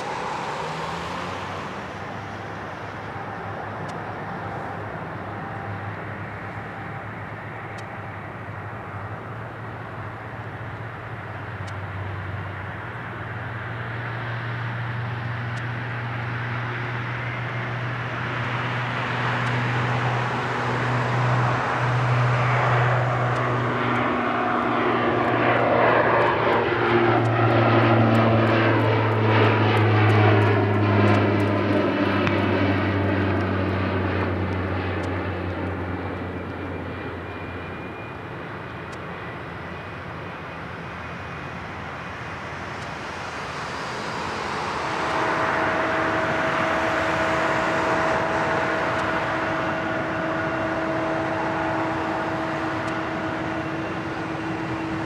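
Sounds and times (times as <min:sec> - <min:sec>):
jet engines rumbling and whining: 0:00.0 - 0:55.0.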